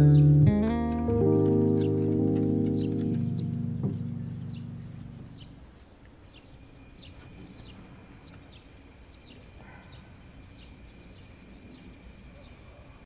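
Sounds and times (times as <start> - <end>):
bird chirping: 0.0 - 13.0
outdoor background noise: 0.0 - 13.0.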